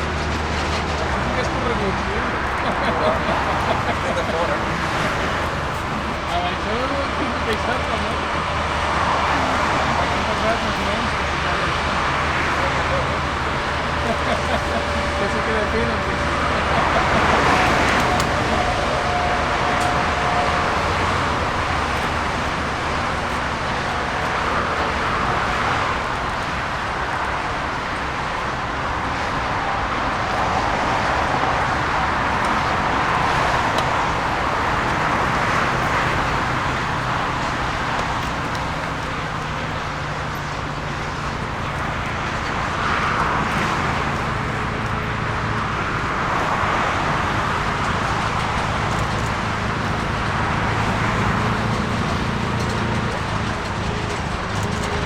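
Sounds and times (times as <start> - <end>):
jet engine rumble: 0.0 - 55.0.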